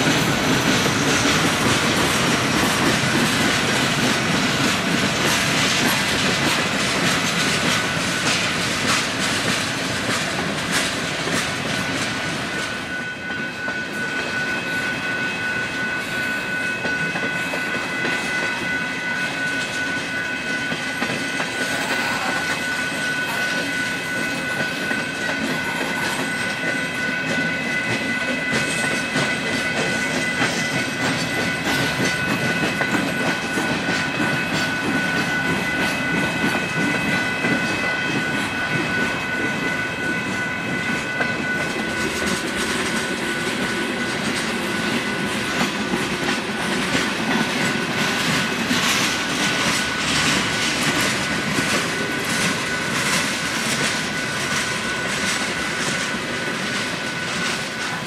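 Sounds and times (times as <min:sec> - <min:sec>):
freight train passing: 0:00.0 - 0:58.0
steady high-pitched tone: 0:10.7 - 0:58.0.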